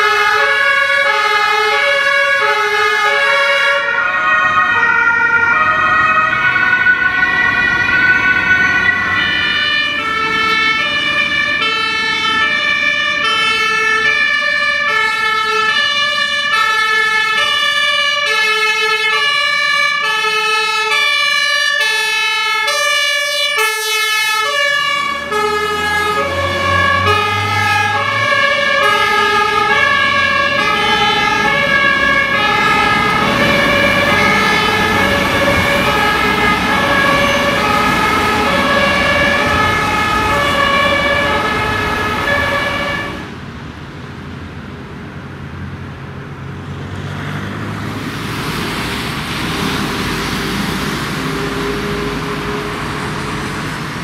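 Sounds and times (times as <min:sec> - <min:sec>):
two-tone emergency sirens: 0:00.0 - 0:43.4, 0:47.4 - 0:54.0.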